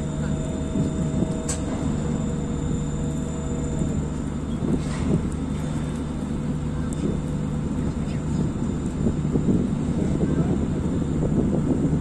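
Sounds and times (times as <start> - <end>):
crane machinery droning: 0.0 - 12.0.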